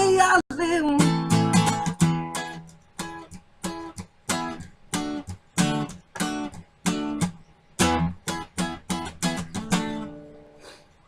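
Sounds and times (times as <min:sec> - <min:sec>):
acoustic guitar strumming damped chords: 0:00.0 - 0:10.6.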